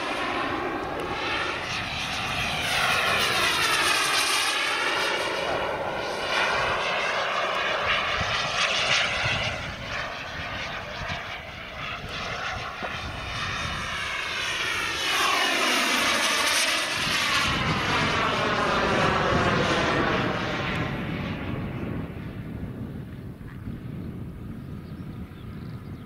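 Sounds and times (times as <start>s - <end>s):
jet flying past overhead: 0.0s - 26.0s.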